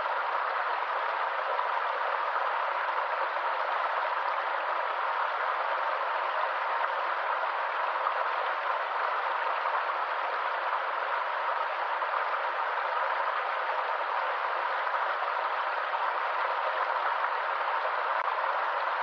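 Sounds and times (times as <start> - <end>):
stream water running over rocks: 0.0 - 19.0.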